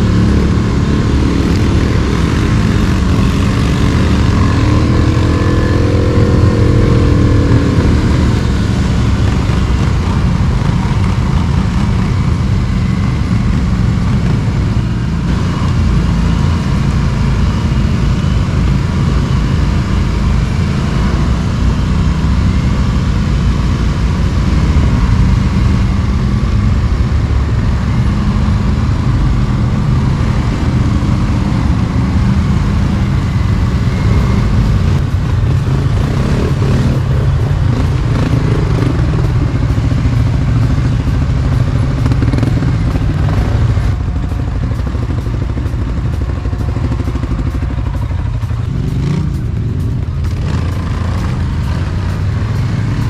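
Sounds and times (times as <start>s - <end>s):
quad engine running: 0.0s - 53.0s.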